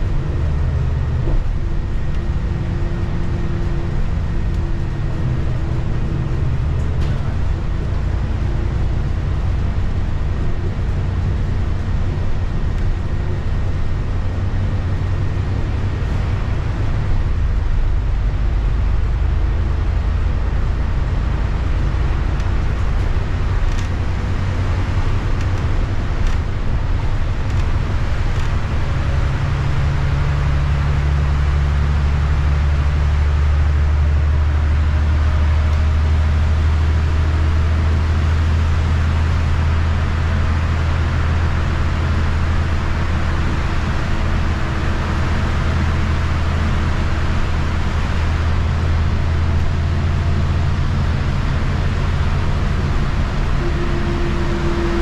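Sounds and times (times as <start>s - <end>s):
bus engine drone: 0.0s - 55.0s
tyre noise on wet road: 0.0s - 55.0s.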